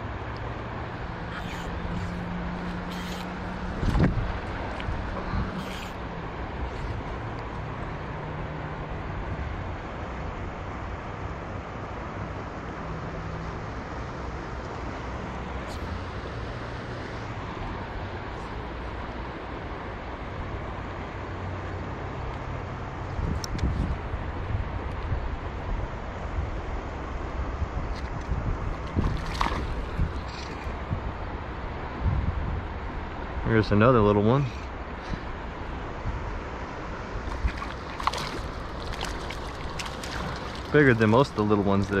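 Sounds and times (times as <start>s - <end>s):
river water rushing: 0.0s - 23.0s, 28.4s - 32.0s, 34.7s - 42.0s.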